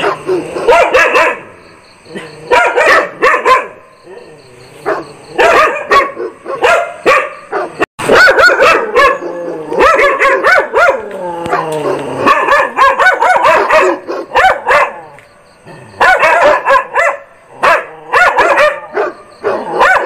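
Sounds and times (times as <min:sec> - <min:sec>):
dogs barking: 0:00.0 - 0:15.2, 0:15.8 - 0:20.0.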